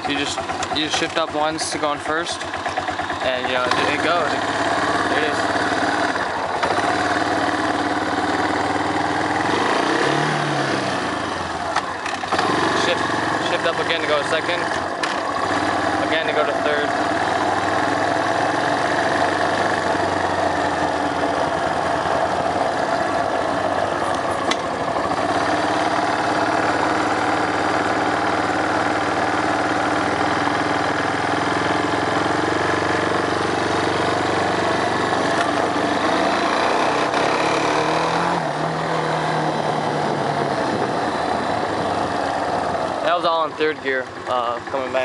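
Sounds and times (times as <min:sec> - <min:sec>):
atv engine running: 0:00.0 - 0:45.0.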